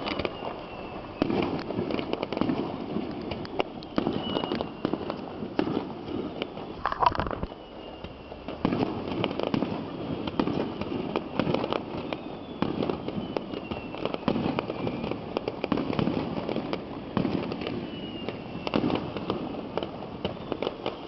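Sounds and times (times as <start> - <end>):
falling firework whistles: 0.0 - 21.0
fireworks bangs and crackles: 0.0 - 21.0.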